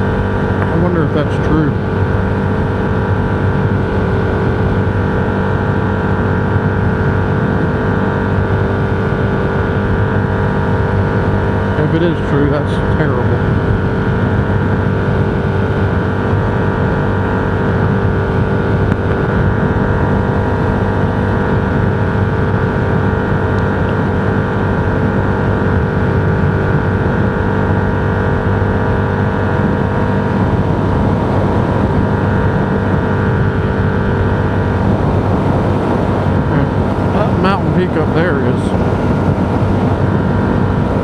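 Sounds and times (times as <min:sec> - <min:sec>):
road noise: 0:00.0 - 0:41.0
vehicle engine drone: 0:00.0 - 0:41.0.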